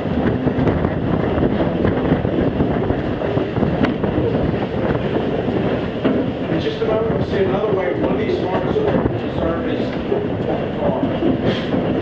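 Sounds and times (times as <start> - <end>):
train wheels rumbling on rail: 0.0 - 12.0
wind on microphone: 0.0 - 12.0.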